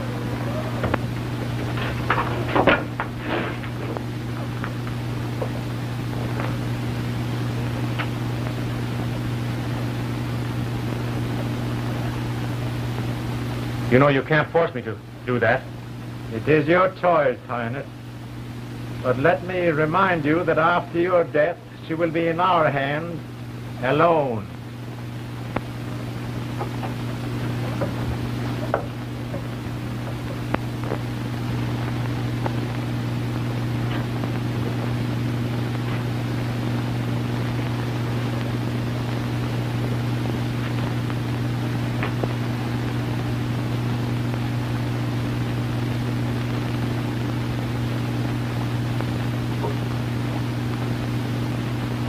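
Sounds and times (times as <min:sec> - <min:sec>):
low hum: 0:00.0 - 0:14.0, 0:17.4 - 0:52.0.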